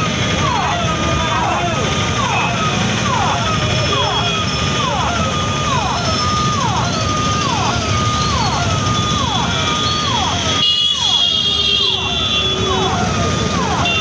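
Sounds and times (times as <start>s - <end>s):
electronic warning siren: 0.0s - 14.0s
road traffic noise: 0.0s - 14.0s.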